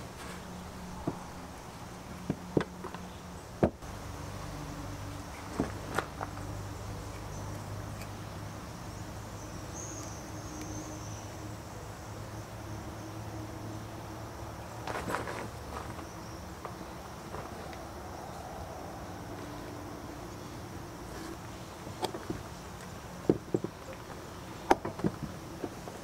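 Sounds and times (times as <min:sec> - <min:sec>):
faint insect trill: 0:00.0 - 0:26.0
steady low hum: 0:00.0 - 0:26.0.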